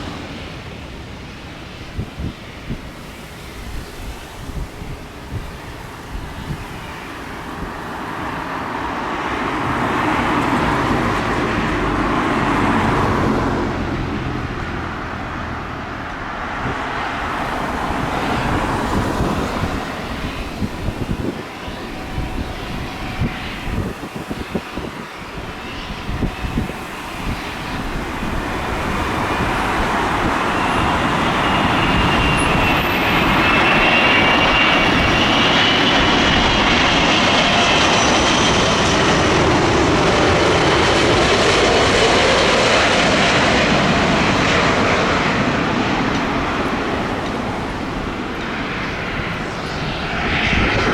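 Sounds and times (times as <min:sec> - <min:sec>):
jet engine noise: 0:00.0 - 0:50.9.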